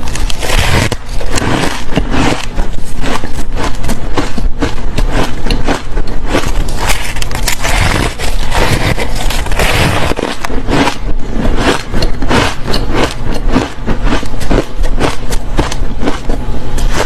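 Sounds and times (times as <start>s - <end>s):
ice being chewed: 0.0s - 17.0s.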